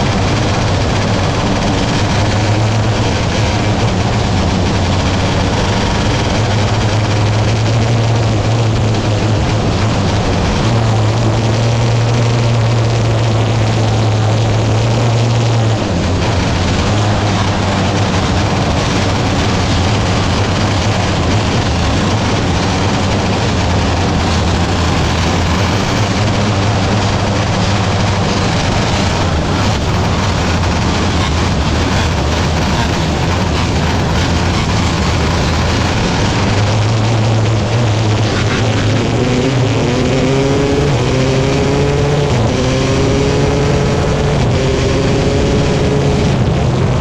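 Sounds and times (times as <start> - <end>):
sprint car engines running hard: 0.0 - 47.0.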